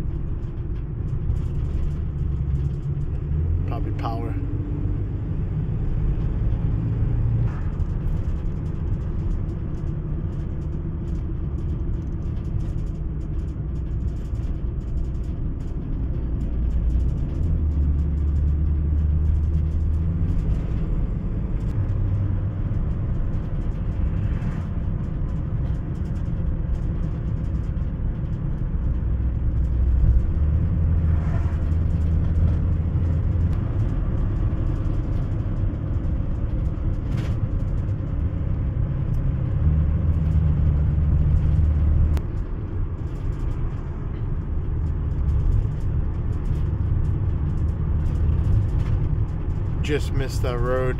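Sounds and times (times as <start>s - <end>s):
car engine and tyre drone: 0.0s - 50.9s.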